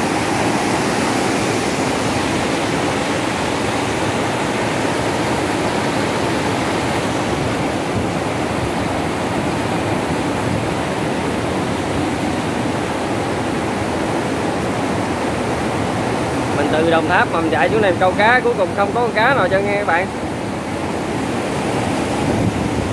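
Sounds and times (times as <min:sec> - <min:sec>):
water rushing through sluice gate: 0:00.0 - 0:22.9.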